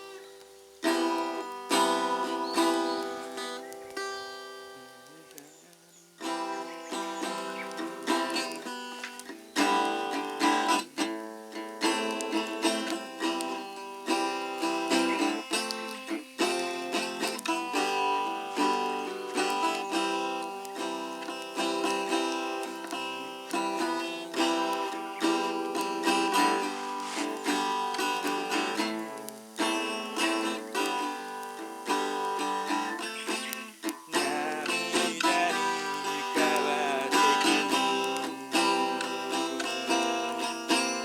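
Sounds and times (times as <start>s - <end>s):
acoustic guitar strumming: 0.0s - 41.0s
person singing: 0.9s - 41.0s.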